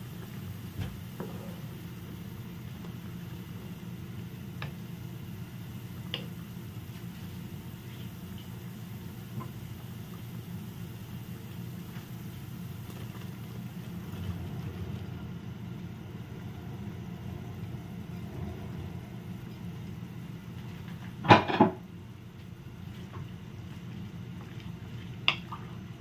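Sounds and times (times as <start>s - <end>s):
soup boiling in a pot: 0.0s - 26.0s.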